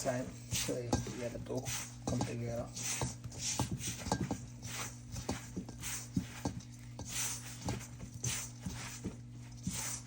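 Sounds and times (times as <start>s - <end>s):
hands squelching bread dough: 0.0s - 10.0s
steady low hum: 0.0s - 10.0s.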